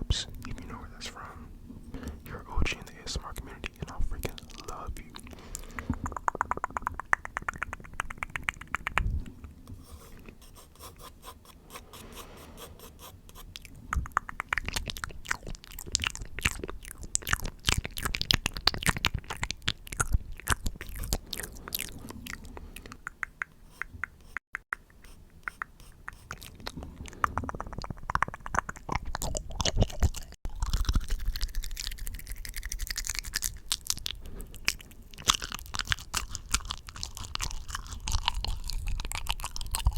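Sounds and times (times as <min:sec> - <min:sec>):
mouth clicks and smacks: 0:02.0 - 0:09.8, 0:13.6 - 0:39.9.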